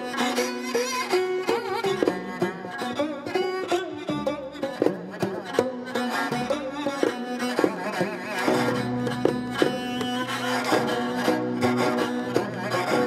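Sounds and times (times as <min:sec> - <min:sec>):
bowed and plucked strings: 0:00.0 - 0:13.0.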